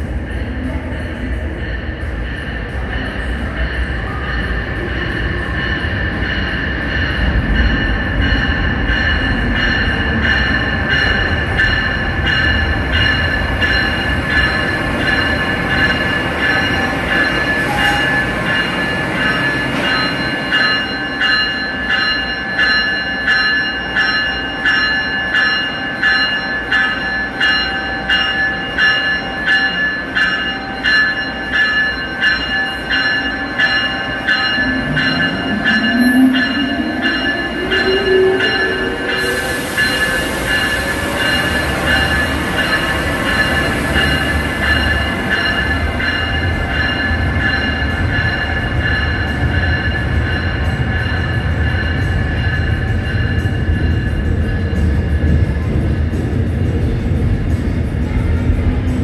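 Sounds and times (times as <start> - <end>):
electronic train bell ringing: 0.0 - 59.0
train rumbling: 0.0 - 59.0.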